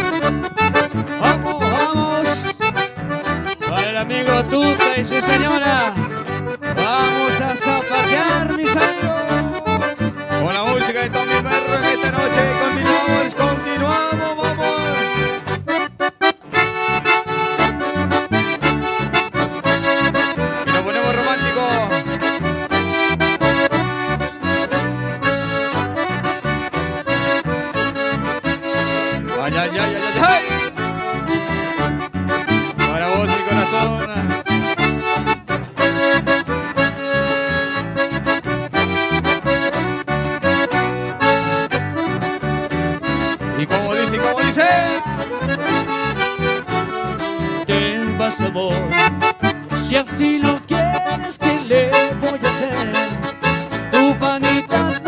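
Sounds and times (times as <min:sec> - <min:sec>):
accordion folk music: 0:00.0 - 0:55.0.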